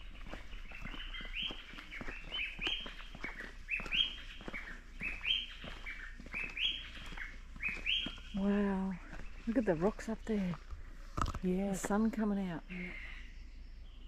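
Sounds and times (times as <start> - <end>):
dawn chorus of birds: 0.0 - 14.0.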